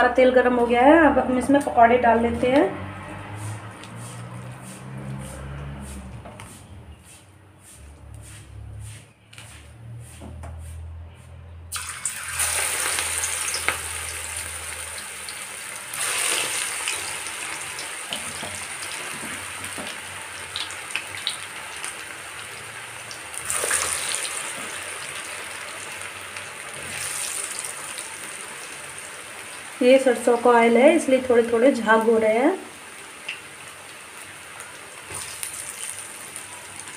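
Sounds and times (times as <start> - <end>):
pakoras sizzling in hot oil: 0.0 - 6.6, 11.7 - 36.9.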